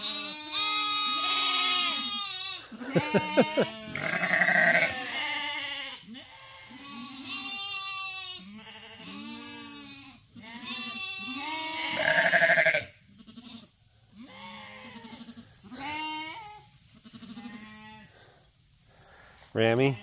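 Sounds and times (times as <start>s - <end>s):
sheep bleating: 0.0s - 18.1s.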